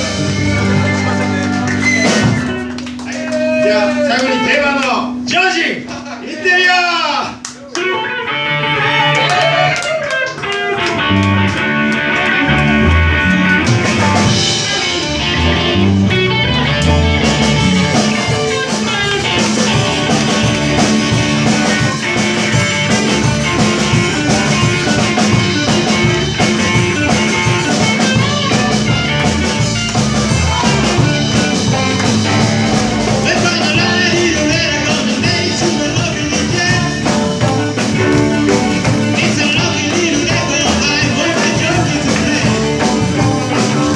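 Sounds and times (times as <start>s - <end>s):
drum kit: 0.0s - 6.2s, 7.2s - 43.9s
electric guitars: 0.0s - 43.9s
live rock band: 0.0s - 43.9s.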